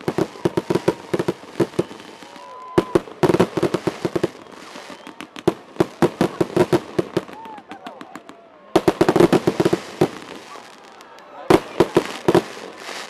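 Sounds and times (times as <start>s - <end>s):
fireworks cracking and banging: 0.0s - 13.0s.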